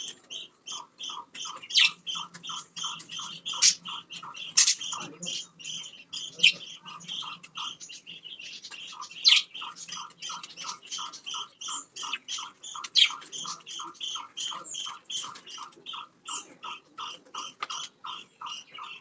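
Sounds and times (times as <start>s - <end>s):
budgerigars chirping: 0.0s - 19.0s
rising bird calls: 0.0s - 19.0s.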